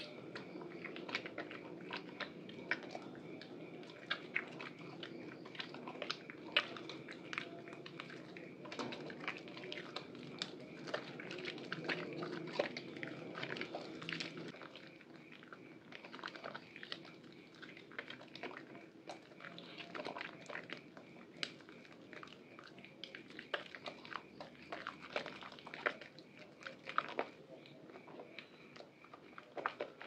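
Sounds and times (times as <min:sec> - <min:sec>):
crackling soap foam: 0:00.0 - 0:30.0
hands lathering soap squelching: 0:00.0 - 0:30.0.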